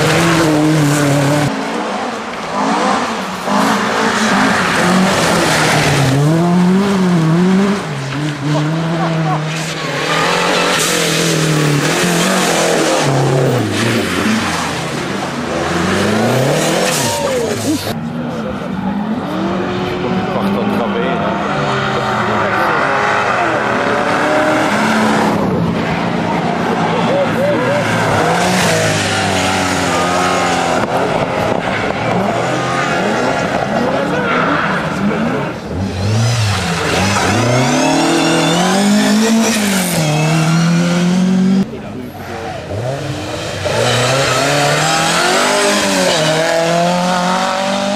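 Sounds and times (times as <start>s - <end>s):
rally car engine at high revs: 0.0s - 47.9s.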